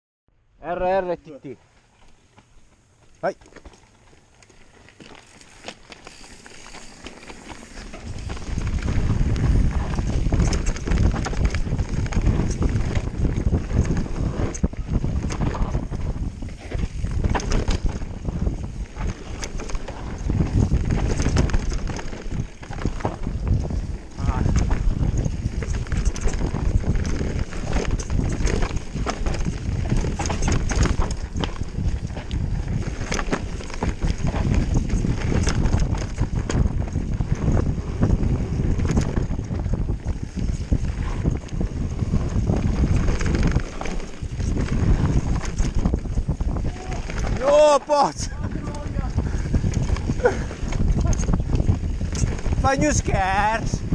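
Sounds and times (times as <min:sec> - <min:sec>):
bike clattering over bumps: 0:03.4 - 0:53.9
wind rumble on microphone: 0:06.0 - 0:53.9.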